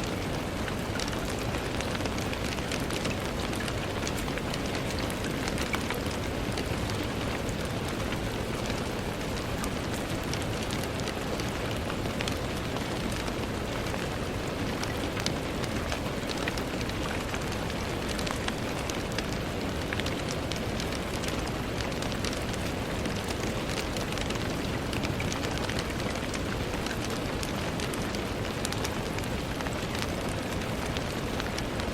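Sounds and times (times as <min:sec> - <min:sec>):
rain falling on window: 0:00.0 - 0:31.9.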